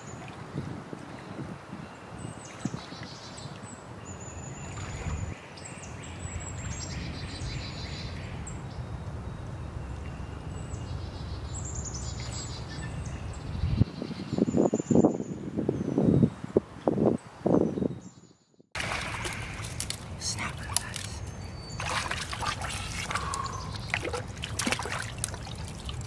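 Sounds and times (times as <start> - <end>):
birds singing whistles and trills: 0.0 - 18.7, 20.4 - 24.7.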